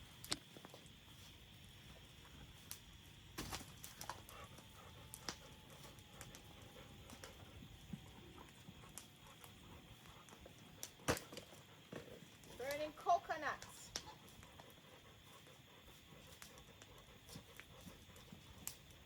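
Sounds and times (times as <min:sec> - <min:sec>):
fire crackling and popping: 0:00.0 - 0:19.0
high insect hum: 0:00.0 - 0:19.0.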